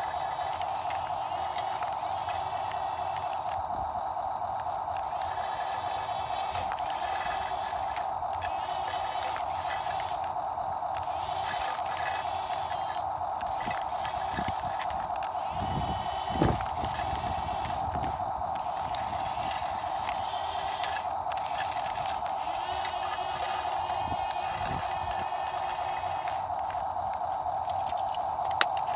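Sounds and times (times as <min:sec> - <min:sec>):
high gear buzz: 0:00.0 - 0:28.9
toy electric motor whining: 0:00.0 - 0:28.9.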